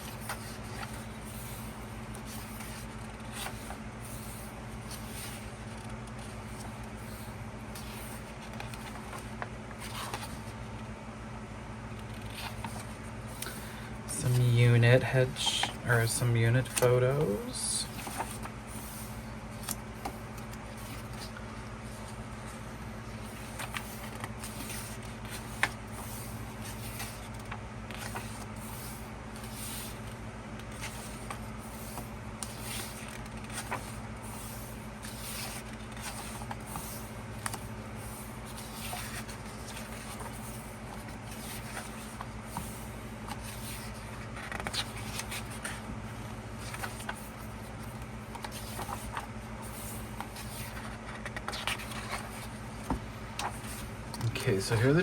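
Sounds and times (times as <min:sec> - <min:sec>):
paper pages rustling: 0:00.0 - 0:10.8, 0:11.9 - 0:54.9
low electrical hum: 0:00.0 - 0:55.0.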